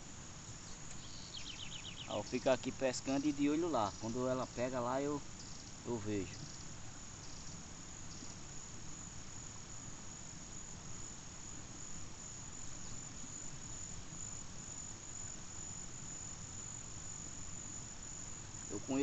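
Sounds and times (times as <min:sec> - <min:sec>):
insects calling: 0:00.0 - 0:19.0.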